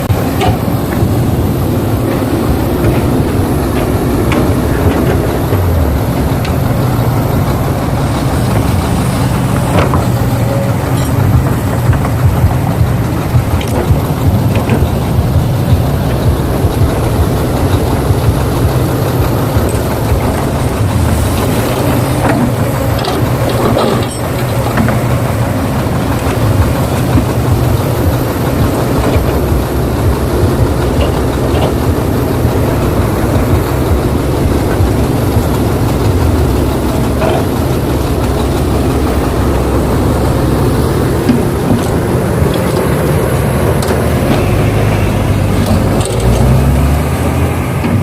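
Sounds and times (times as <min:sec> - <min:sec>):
heavy vehicle engine rumble: 0:00.0 - 0:48.0.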